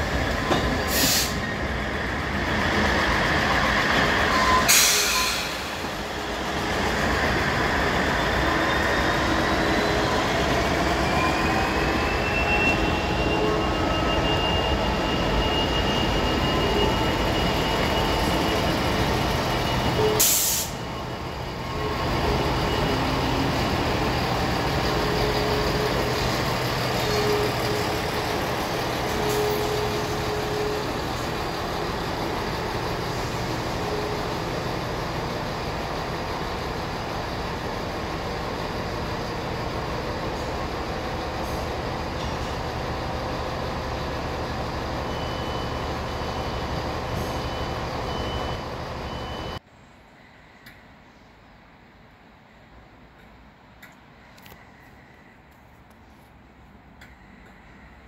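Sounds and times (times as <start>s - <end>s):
diesel locomotive engine thrumming: 0.0s - 49.6s
diesel train whine: 0.0s - 58.0s.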